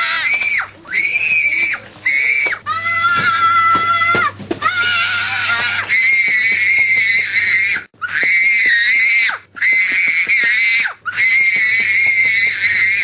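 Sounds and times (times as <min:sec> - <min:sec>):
child screaming: 0:00.0 - 0:13.0.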